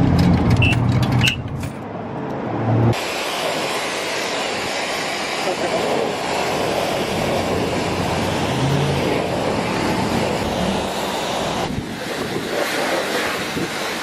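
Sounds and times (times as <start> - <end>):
vehicle rushing hiss and rumble: 0.0 - 14.0.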